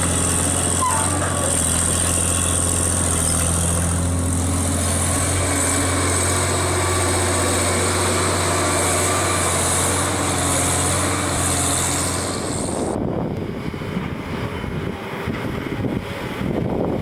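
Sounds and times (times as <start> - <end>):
construction machine engine running: 0.0 - 17.0.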